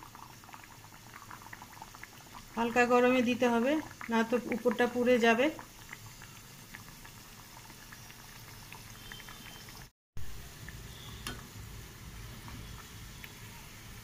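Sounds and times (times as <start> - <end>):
bread deep-frying in oil: 0.0 - 14.0.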